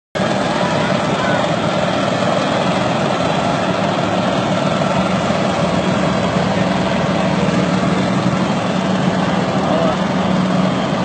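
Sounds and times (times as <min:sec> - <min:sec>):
boat engine droning: 0:00.2 - 0:11.0.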